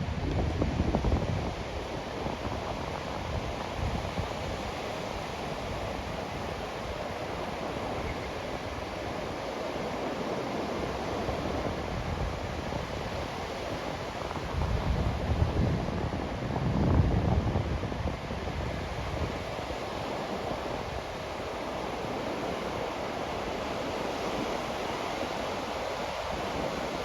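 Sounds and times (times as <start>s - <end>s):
waves washing onto a beach: 0.0s - 27.0s
wind buffeting the microphone: 0.0s - 27.0s.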